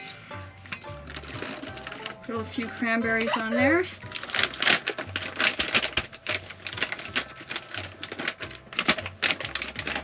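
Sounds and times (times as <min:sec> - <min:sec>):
dried fruit pattering onto salad: 0:00.0 - 0:10.0
packet rustling: 0:00.7 - 0:10.0.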